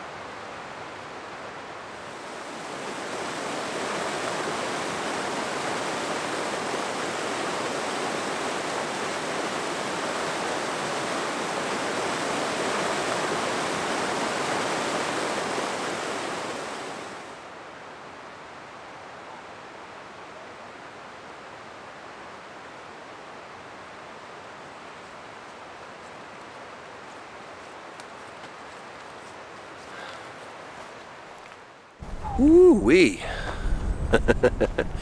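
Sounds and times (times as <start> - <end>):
rushing mountain creek: 0.0 - 33.5.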